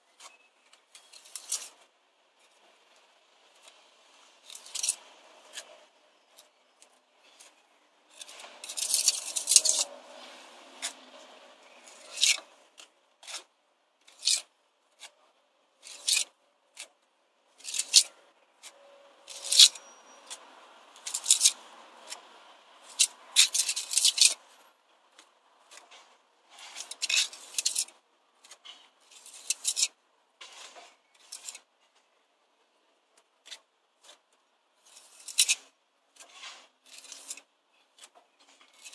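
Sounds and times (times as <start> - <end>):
tool scraping mortar on brick: 4.5 - 17.0, 17.6 - 31.7, 33.4 - 38.9.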